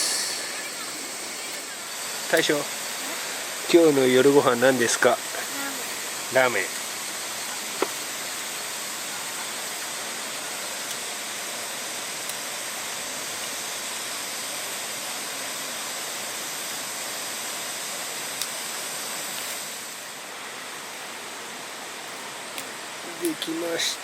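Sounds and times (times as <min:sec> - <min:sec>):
gas stove burner hissing: 0:00.0 - 0:24.0.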